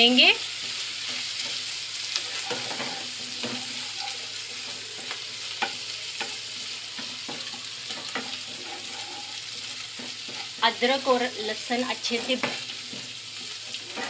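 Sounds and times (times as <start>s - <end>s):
garlic and ginger sizzling: 0.0s - 14.0s
spatula scraping pan: 0.5s - 14.0s.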